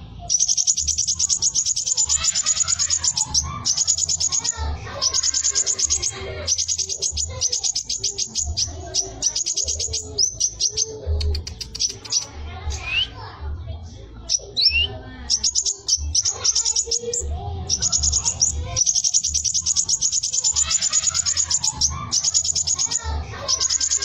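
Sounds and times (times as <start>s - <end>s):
bird singing rapid trill: 0.0s - 13.2s, 14.2s - 24.0s.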